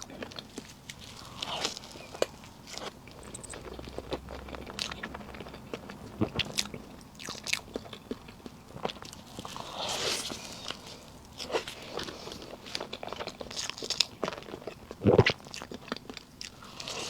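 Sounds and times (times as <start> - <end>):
wet chewing and mouth smacks: 0.0 - 17.0.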